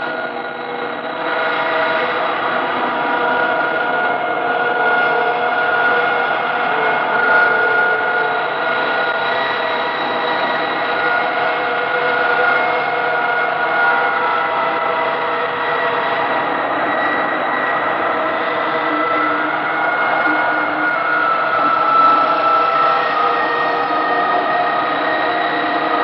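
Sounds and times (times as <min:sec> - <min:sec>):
experimental noise drone: 0:00.0 - 0:26.0.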